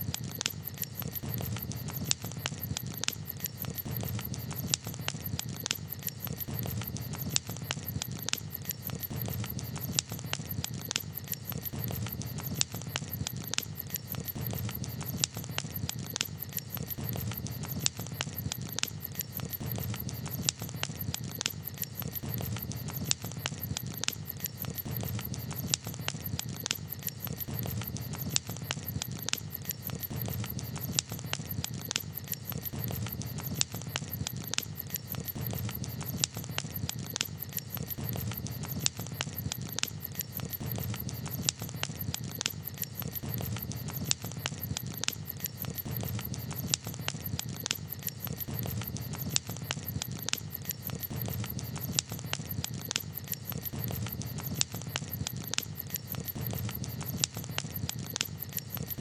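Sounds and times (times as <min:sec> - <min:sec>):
campfire crackling and popping: 0:00.0 - 0:59.0
low rumble of burning wood: 0:00.1 - 0:59.0.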